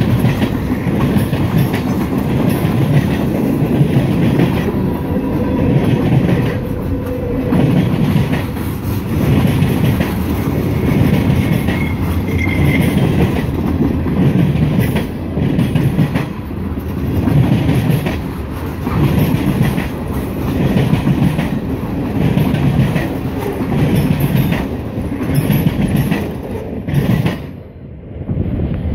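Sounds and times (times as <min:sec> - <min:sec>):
wheels clacking over rail joints: 0:00.0 - 0:27.5
freight train rumbling: 0:00.0 - 0:28.9.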